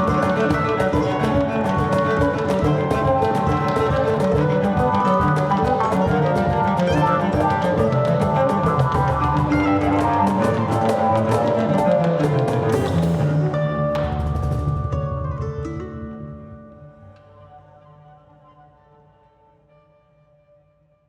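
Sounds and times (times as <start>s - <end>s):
percussion strikes: 0.0s - 17.5s
mandolin: 0.0s - 19.2s
cello: 0.0s - 20.0s
guitar: 0.0s - 20.0s.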